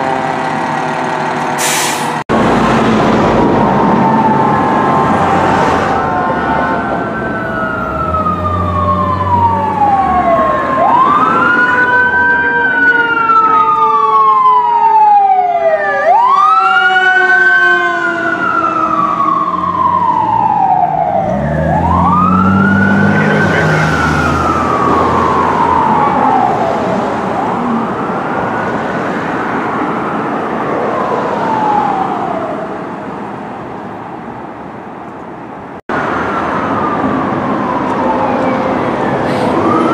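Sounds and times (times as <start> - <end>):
fire engine siren wailing: 0.0 - 33.2, 35.9 - 39.9
traffic noise: 0.0 - 39.9.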